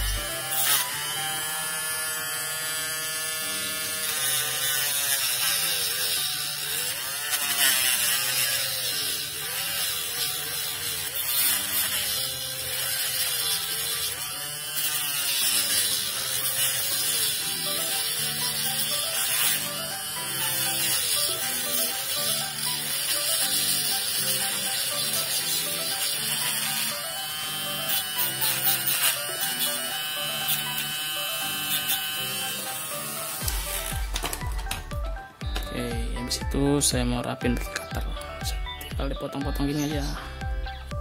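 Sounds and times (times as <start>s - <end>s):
mini grinder cutting plastic: 0.0s - 41.0s.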